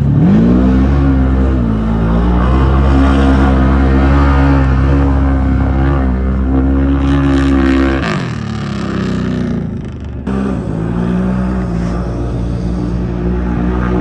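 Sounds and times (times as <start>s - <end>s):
race vehicle engine running hard: 0.0s - 14.0s.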